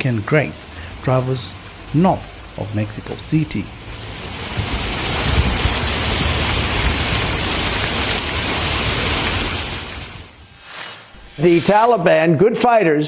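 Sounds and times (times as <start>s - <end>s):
torrential rain in strong wind: 0.0s - 10.6s.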